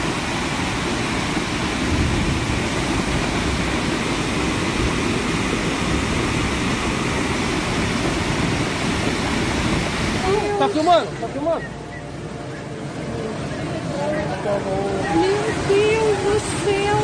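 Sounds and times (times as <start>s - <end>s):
roar of rushing floodwater: 0.0s - 17.0s.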